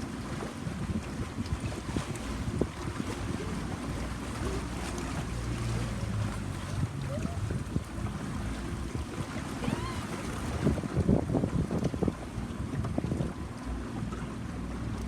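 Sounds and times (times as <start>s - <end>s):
wind buffeting microphone: 0.0s - 13.6s
boat engine running: 0.0s - 15.0s
water splashing against hull: 0.0s - 15.0s.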